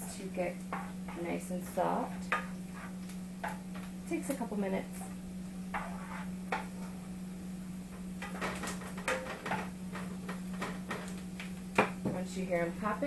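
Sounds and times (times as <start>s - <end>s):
onions sauteing: 0.0s - 13.0s
steady low hum: 0.0s - 13.0s.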